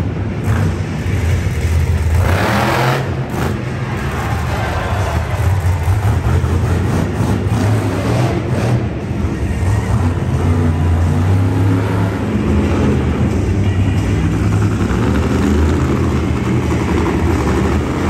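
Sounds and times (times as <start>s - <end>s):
monster truck engines droning: 0.0s - 18.0s.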